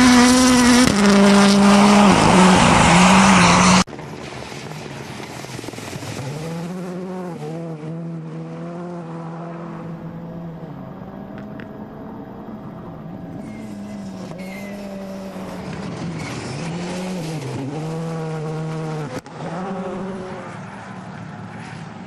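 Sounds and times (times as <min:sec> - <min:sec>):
rally car engine running hard: 0:00.0 - 0:22.0.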